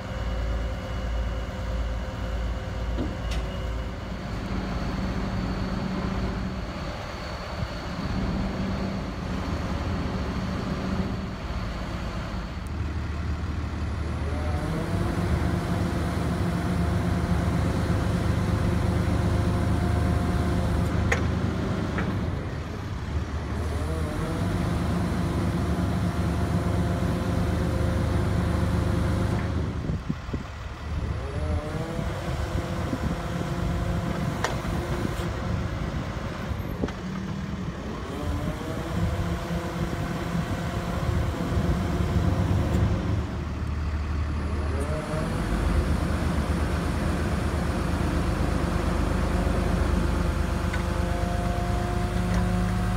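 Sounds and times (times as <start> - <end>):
truck engine low drone: 0.0 - 52.9.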